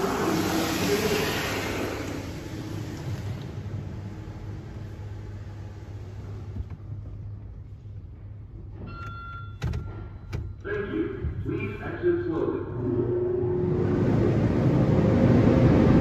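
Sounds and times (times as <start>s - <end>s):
car wash rushing noise: 0.0s - 8.5s, 10.7s - 16.0s
steady low hum: 0.0s - 16.0s.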